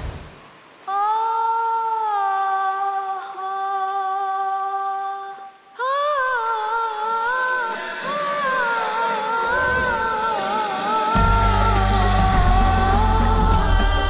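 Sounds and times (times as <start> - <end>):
woman singing long notes: 0.9 - 14.0.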